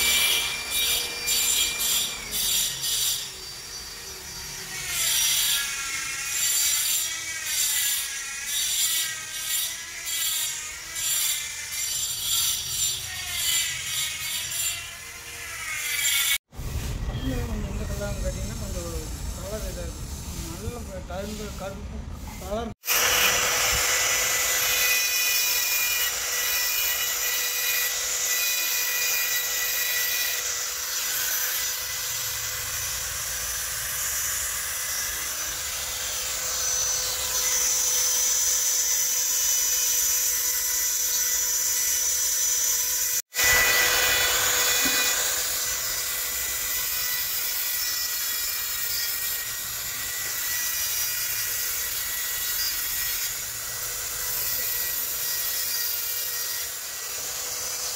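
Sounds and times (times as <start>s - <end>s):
rotary engraving tool whining: 0.0s - 16.5s, 22.8s - 57.9s.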